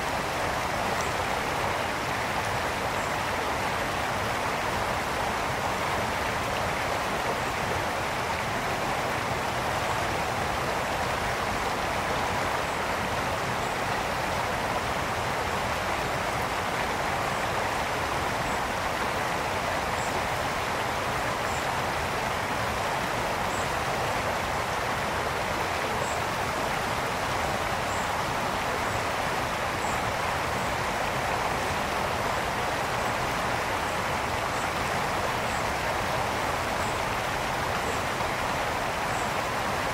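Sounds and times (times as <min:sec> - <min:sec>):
brook water flowing: 0:00.0 - 0:39.9.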